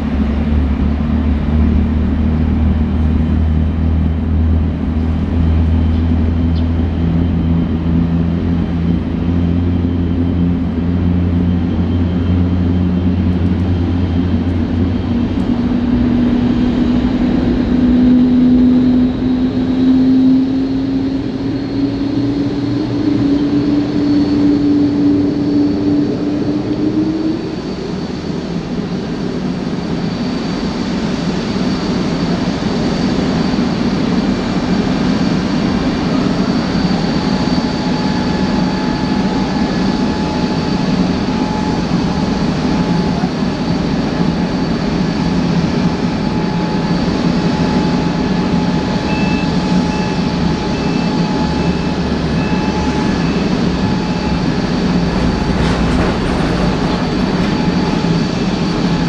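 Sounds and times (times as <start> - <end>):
high steady engine whines: 0.0 - 59.0
jet engines roaring: 0.0 - 59.0.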